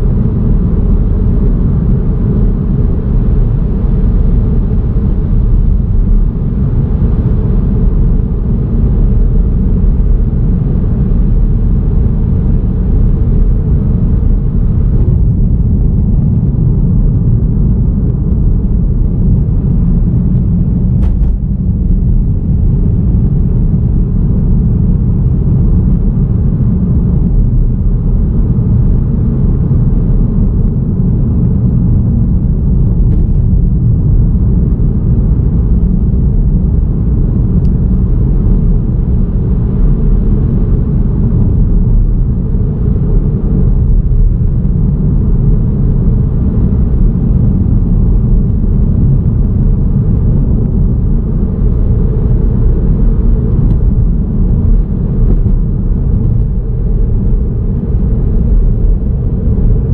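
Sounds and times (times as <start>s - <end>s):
car driving road noise: 0.0s - 59.9s.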